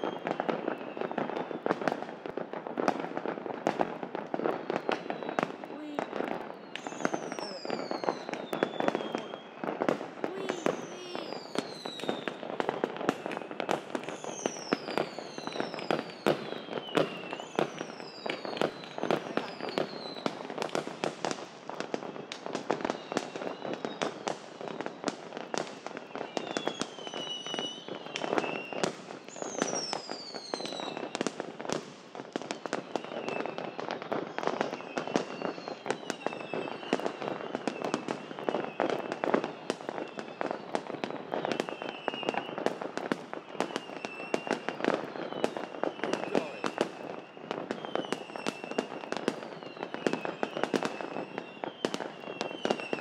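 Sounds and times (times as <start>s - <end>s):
fireworks bangs and crackles: 0.0s - 53.0s
whistling firework: 0.0s - 53.0s.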